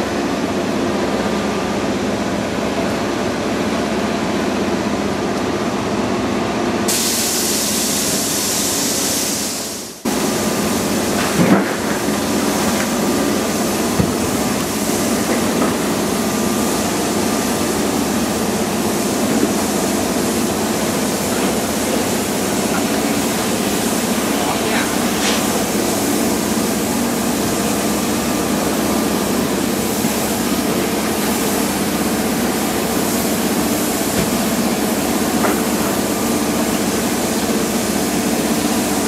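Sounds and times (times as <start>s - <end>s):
hiss: 6.9s - 39.0s.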